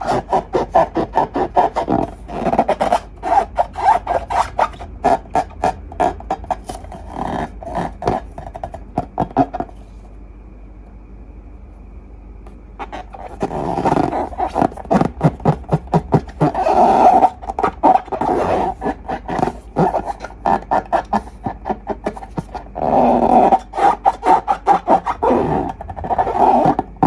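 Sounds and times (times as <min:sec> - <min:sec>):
rubber balloon squeaking: 0:00.0 - 0:10.0, 0:12.8 - 0:27.0.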